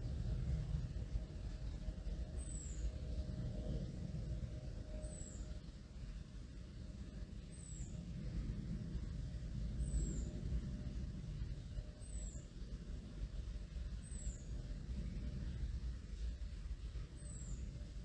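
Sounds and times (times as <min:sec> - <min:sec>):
distant aircraft rumble: 0:00.0 - 0:18.0.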